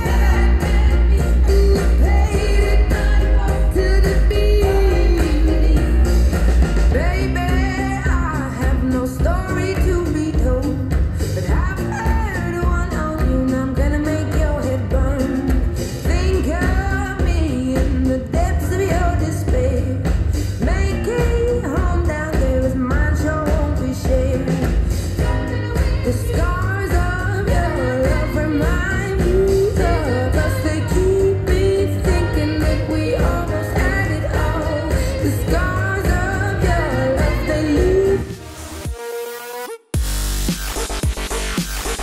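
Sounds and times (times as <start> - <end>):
pop rock song with vocals: 0.0 - 38.9
heavy bass beat: 0.0 - 39.1, 40.0 - 42.0.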